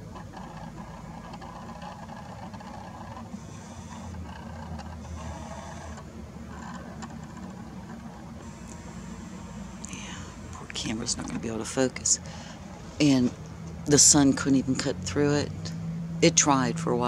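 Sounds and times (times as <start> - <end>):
faint high whir: 0.0 - 16.3
low background rumble: 0.0 - 17.0.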